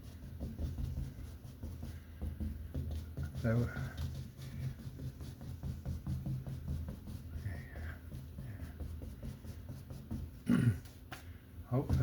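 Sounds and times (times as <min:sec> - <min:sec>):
paintbrush dabbing on canvas: 0:00.0 - 0:12.0.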